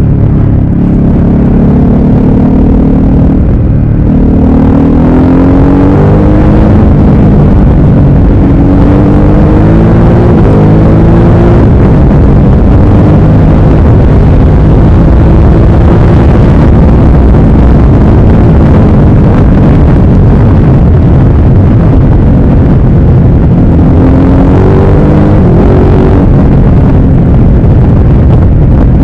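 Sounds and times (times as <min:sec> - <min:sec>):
motorcycle engine accelerating: 0:00.0 - 0:29.0
wind noise on microphone: 0:00.0 - 0:29.0.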